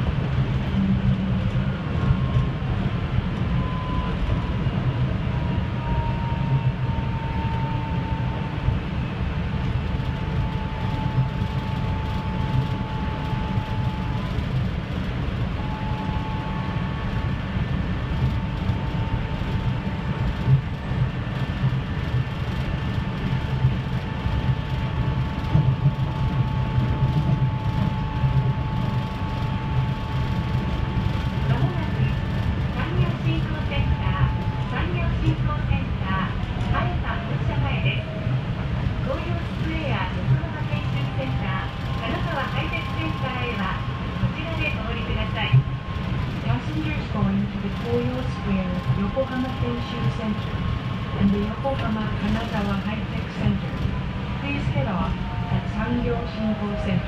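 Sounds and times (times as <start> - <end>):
train running gear rumble: 0.0 - 57.0.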